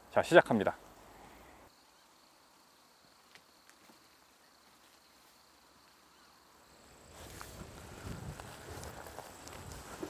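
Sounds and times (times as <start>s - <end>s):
crickets chirring: 0.0s - 10.0s
high insect tone: 0.1s - 10.0s.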